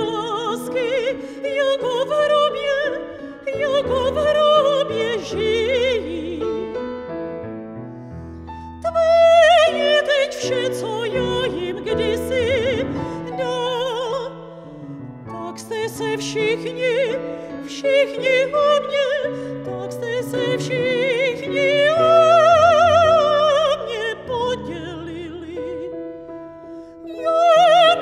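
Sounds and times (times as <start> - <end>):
soprano singing with vibrato: 0.0 - 6.9, 8.8 - 26.2, 27.0 - 28.0
grand piano accompaniment: 0.0 - 28.0.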